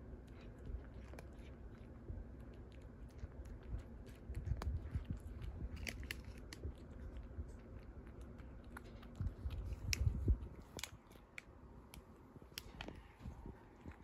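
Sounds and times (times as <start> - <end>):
cat chewing: 0.0 - 14.0.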